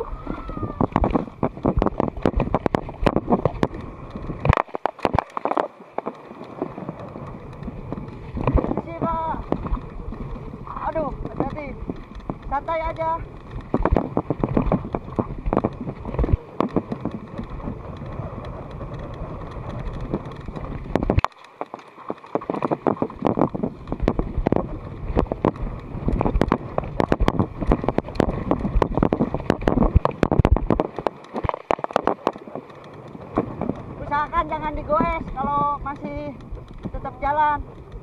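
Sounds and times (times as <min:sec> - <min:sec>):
wind rumble on microphone: 0:00.0 - 0:38.0
bike rattling over bumps: 0:00.8 - 0:38.0.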